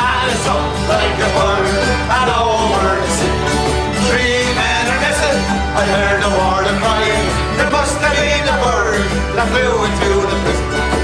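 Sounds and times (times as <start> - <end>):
mandolin: 0.0 - 11.0
men singing: 0.0 - 11.0
strummed acoustic guitar: 0.0 - 11.0.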